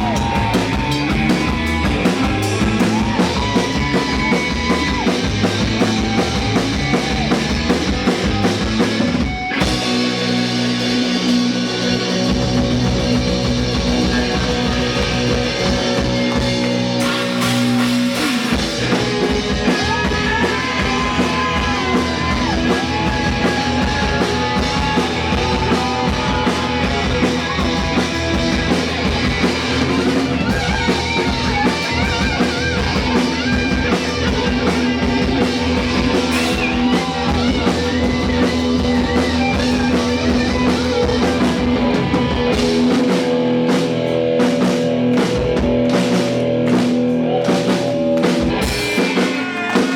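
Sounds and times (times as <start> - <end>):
drum beat: 0.0 - 49.9
live rock band playing: 0.0 - 49.9.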